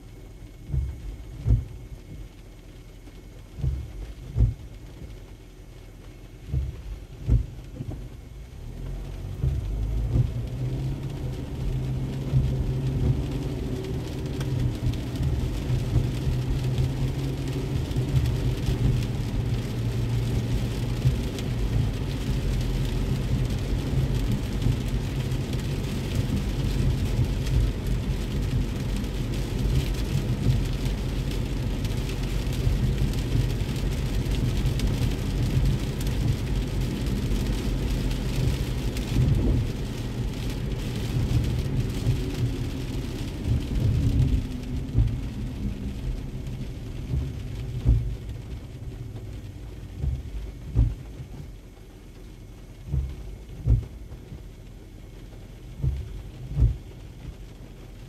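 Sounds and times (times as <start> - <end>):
engine and tyres rumbling: 0.0 - 58.0
heavy rain on car roof: 0.0 - 58.0.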